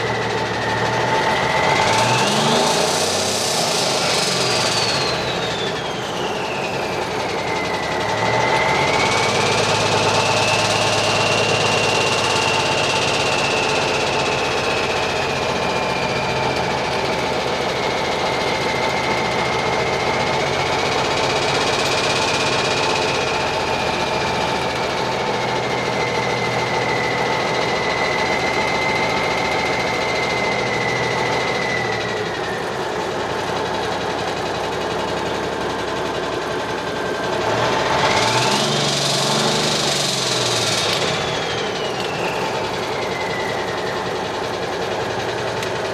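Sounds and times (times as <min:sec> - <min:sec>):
diesel engine running: 0:00.0 - 0:45.9
turbocharger whistling: 0:00.0 - 0:45.9.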